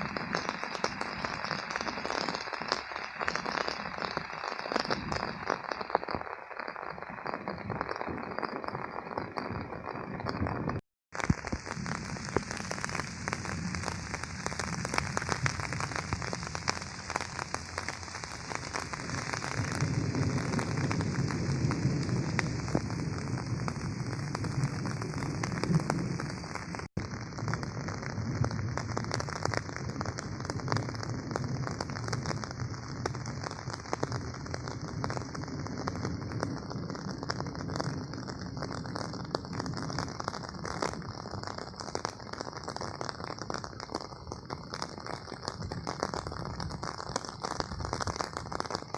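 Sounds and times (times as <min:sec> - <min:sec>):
rain falling: 0:00.0 - 0:10.6, 0:11.2 - 0:48.9.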